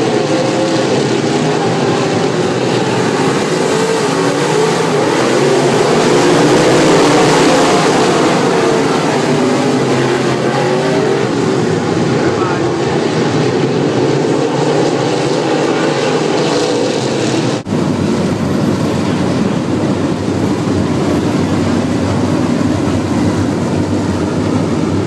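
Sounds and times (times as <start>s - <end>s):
race car engines roaring: 0.0s - 25.0s.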